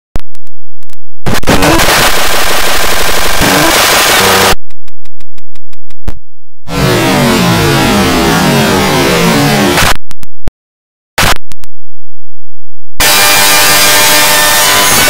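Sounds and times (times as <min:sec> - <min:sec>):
distorted sharp clicks: 0:00.2 - 0:10.5, 0:11.2 - 0:11.8, 0:13.0 - 0:15.0.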